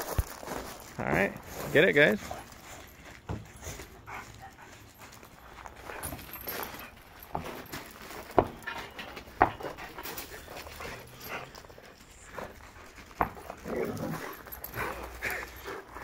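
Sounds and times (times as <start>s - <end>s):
dogs panting: 0.0s - 16.0s.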